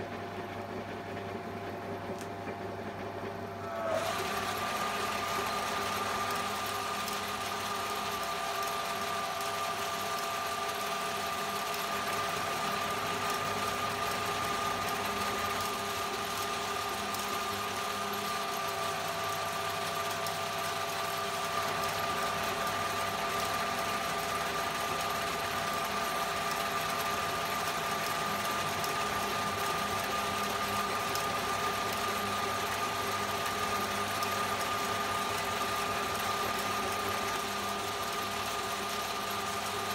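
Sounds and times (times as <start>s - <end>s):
metal lathe running: 3.6s - 39.9s.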